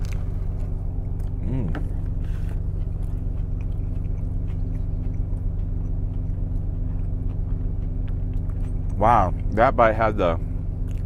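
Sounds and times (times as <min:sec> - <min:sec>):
person chewing: 0:00.0 - 0:09.5, 0:10.8 - 0:11.0
truck engine idling: 0:00.0 - 0:11.0.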